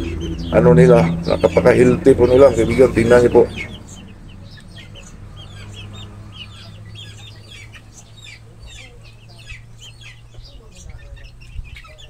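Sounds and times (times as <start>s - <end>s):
chicks peeping and chirping: 0.0s - 12.0s.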